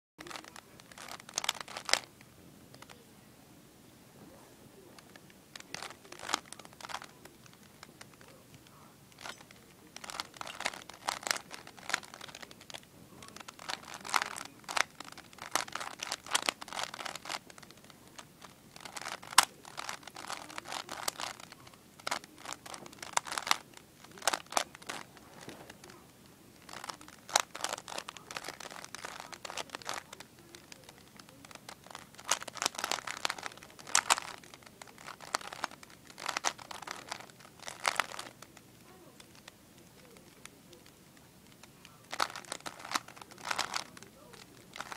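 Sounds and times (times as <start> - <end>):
puzzle cube clicking turns: 0.2 - 3.0, 5.0 - 44.9.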